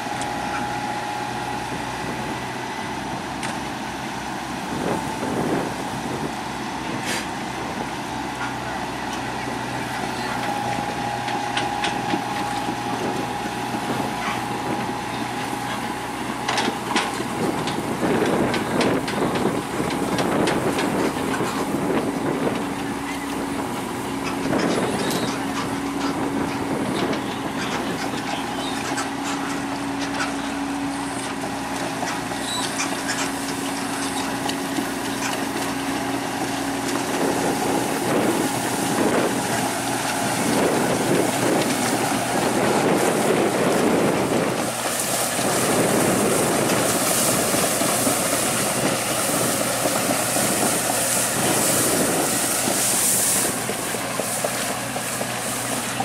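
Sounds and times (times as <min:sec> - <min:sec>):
heavy diesel machinery running: 0:00.0 - 0:56.0
machinery whine: 0:00.0 - 0:56.0.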